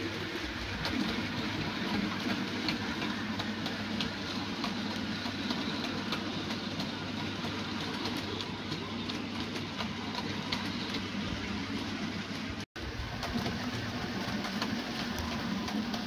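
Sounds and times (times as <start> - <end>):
model train rumbling along track: 0.0 - 16.0
wheels clicking over rail joints: 0.0 - 16.0.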